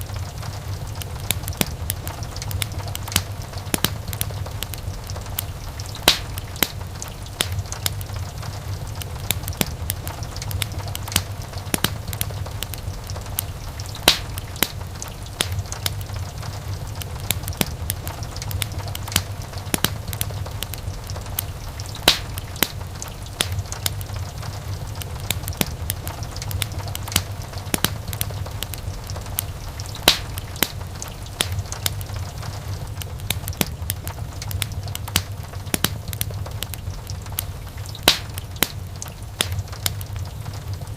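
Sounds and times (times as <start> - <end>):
fire crackling: 0.0 - 40.9
loud fire pops: 0.0 - 40.9
low rumble of flames: 0.0 - 40.9.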